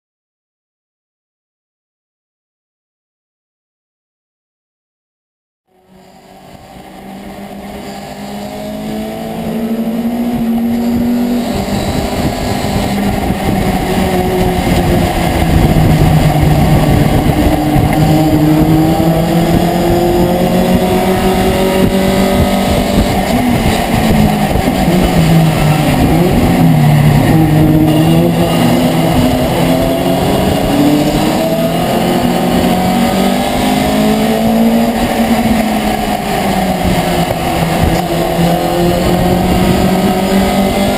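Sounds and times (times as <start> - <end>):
truck engine accelerating: 5.7 - 40.9.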